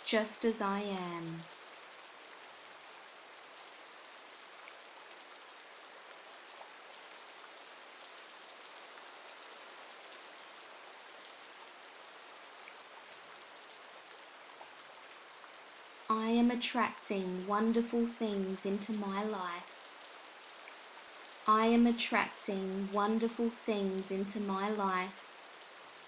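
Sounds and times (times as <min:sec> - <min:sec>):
soft rain hiss: 0:00.0 - 0:26.0.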